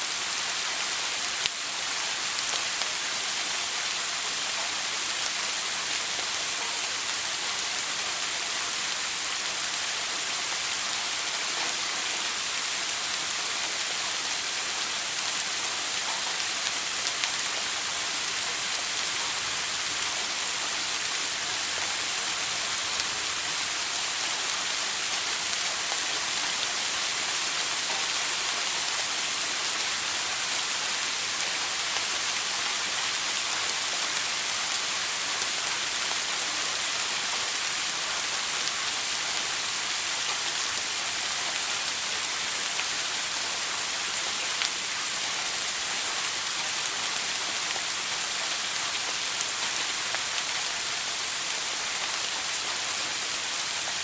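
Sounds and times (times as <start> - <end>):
shower water spray hissing: 0.0 - 54.0.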